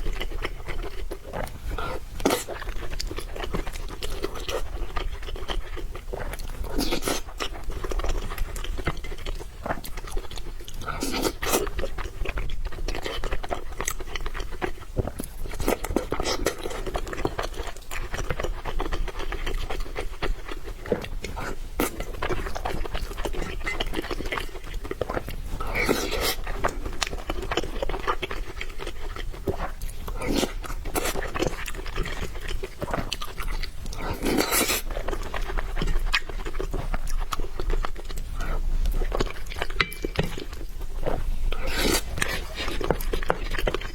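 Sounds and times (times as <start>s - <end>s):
chewing noodles with mouth smacking: 0.0s - 43.9s.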